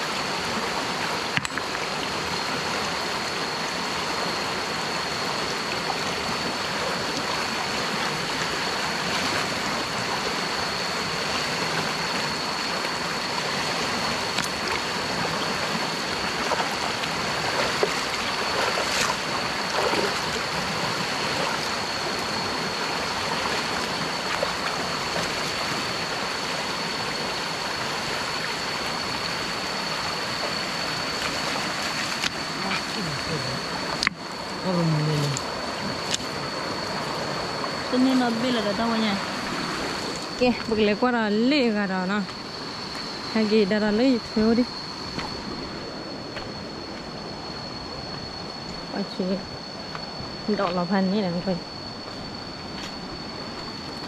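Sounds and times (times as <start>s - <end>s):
stream water flowing: 0.0s - 54.0s
thin high steady tone: 0.9s - 54.0s.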